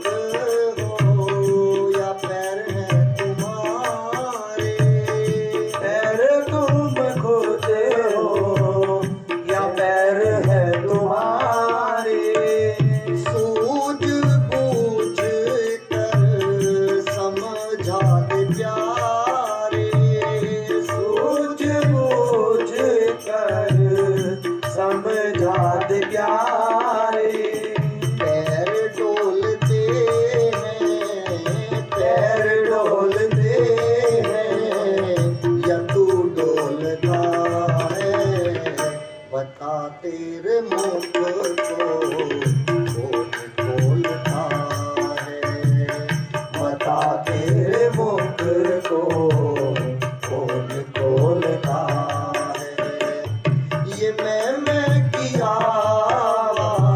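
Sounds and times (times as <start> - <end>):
tabla rhythm: 0.0 - 56.9.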